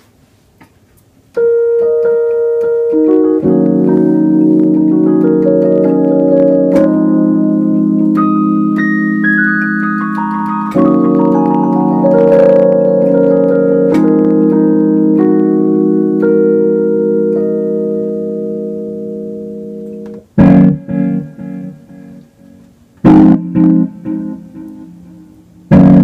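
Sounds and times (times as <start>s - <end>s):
electronic keyboard jazz chords: 1.3s - 26.0s.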